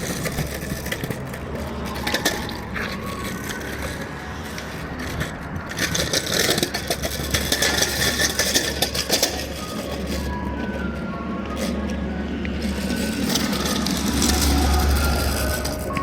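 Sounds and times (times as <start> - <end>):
crackling scraping noise: 0.0 - 16.0
vehicle engine idling: 0.0 - 16.0.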